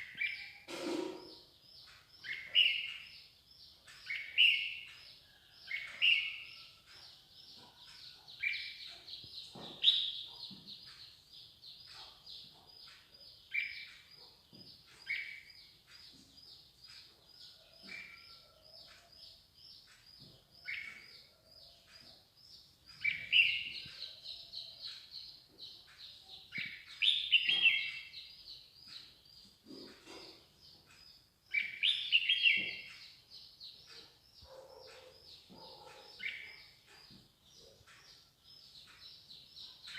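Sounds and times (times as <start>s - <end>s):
birds chirping: 0.0s - 39.9s
louder lower bird chirping: 0.0s - 39.9s.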